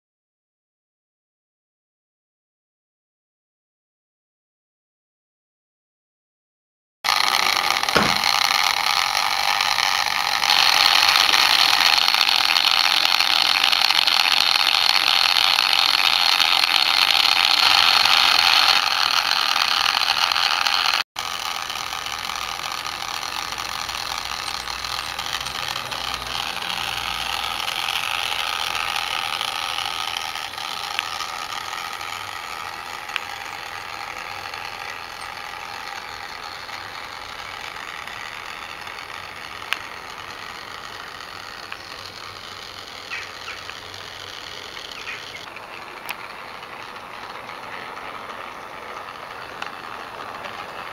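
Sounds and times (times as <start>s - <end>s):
toy locomotive motor whirring: 7.1s - 50.9s.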